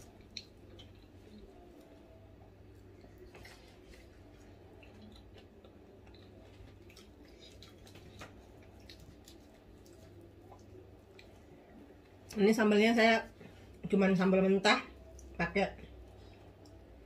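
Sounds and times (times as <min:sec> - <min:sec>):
quiet chewing with smacks: 0:00.0 - 0:12.4, 0:14.9 - 0:17.0
low steady hum: 0:00.0 - 0:17.0.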